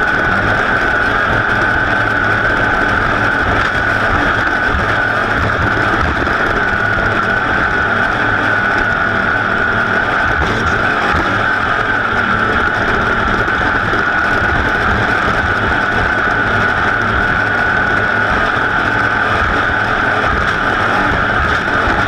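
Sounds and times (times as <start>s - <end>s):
racing engine at high revs: 0.0s - 22.0s.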